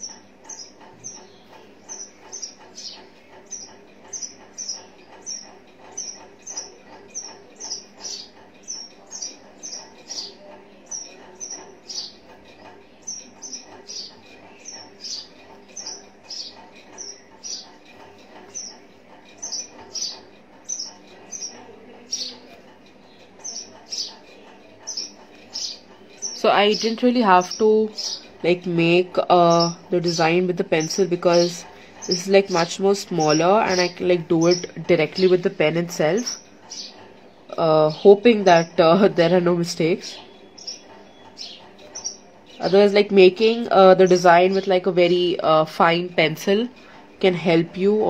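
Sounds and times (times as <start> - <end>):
small bird chirping: 0.0 - 48.0.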